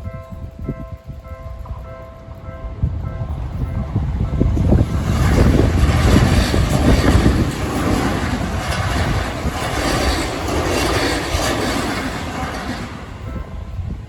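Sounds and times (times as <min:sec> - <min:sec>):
electric train passing: 0:00.0 - 0:14.0
wheels rumbling on rail: 0:00.0 - 0:14.0.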